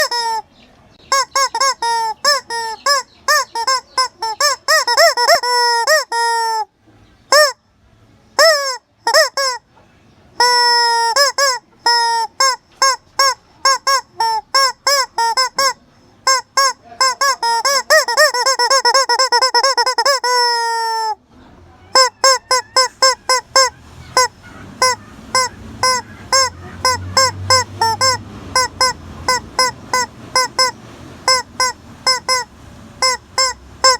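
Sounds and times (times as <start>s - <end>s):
chicken squawking: 0.0s - 6.7s, 7.3s - 7.6s, 8.3s - 33.9s.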